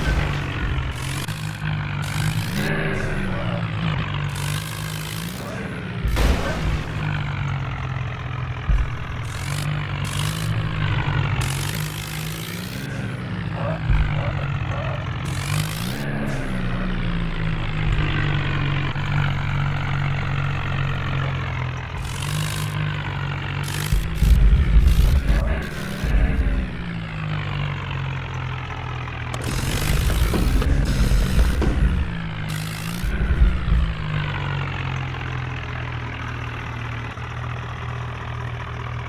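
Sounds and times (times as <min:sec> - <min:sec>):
diesel tractor engine running: 0:00.0 - 0:39.0.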